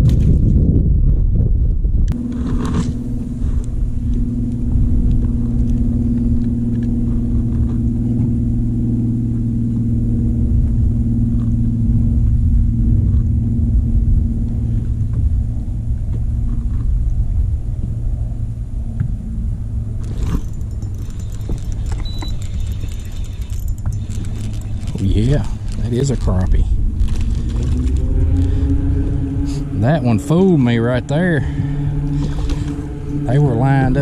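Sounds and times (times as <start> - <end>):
wind buffeting microphone: 0.0 - 8.6, 9.7 - 34.0
electric trolling motor hum: 2.1 - 34.0.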